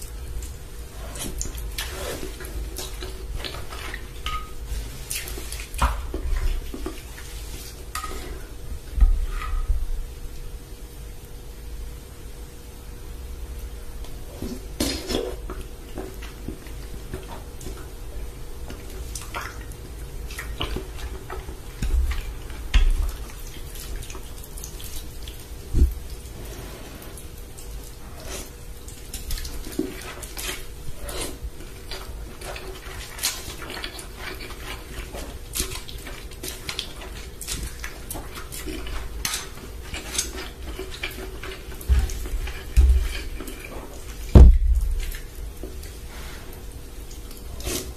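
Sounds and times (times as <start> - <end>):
slurping and chewing noodles: 0.0 - 8.5, 14.2 - 44.3, 45.0 - 47.9.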